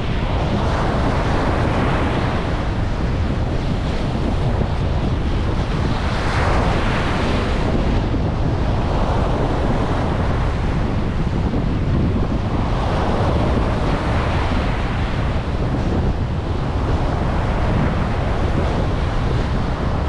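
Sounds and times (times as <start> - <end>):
ocean surf breaking on beach: 0.0 - 20.0
wind buffeting microphone: 0.0 - 20.0.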